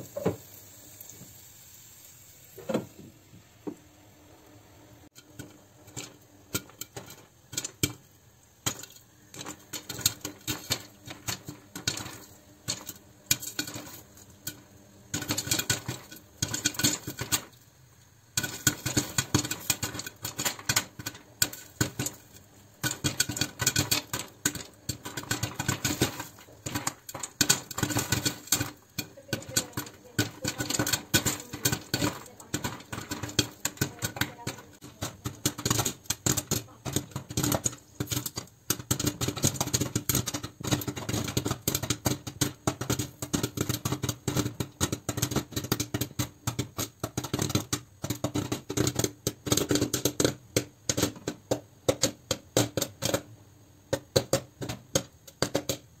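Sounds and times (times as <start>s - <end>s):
popcorn popping in a pot: 0.0s - 56.0s.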